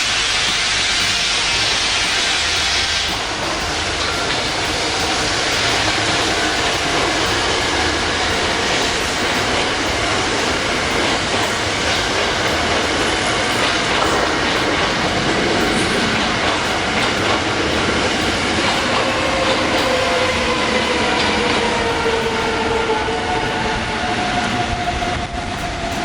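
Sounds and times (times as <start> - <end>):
train wheels rushing on track: 0.0 - 26.0.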